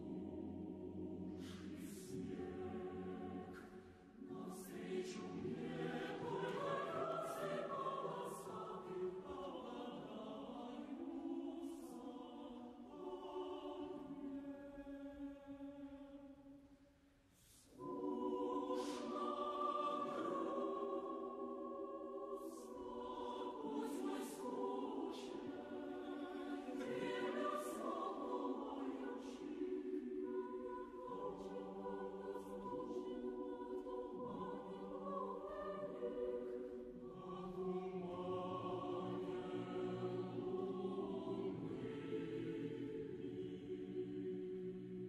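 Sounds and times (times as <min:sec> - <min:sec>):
choir singing long notes: 0:00.0 - 0:16.6, 0:17.4 - 0:45.0.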